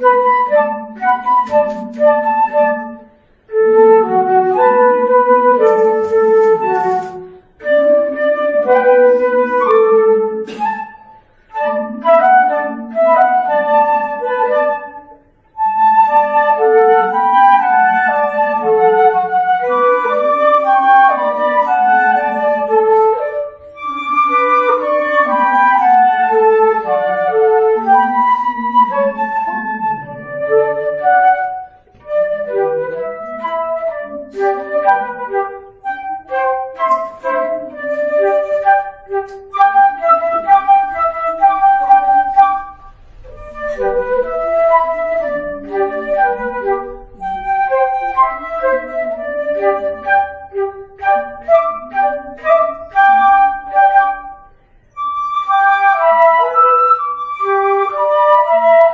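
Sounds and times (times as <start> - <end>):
flute duet: 0.0 - 58.9.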